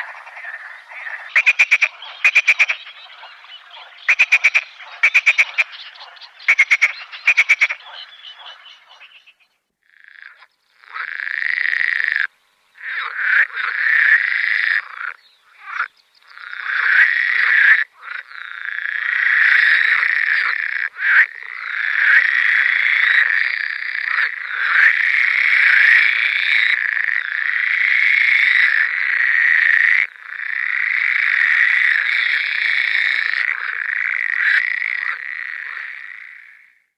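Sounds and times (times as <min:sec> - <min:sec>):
frogs calling: 0:00.0 - 0:36.9.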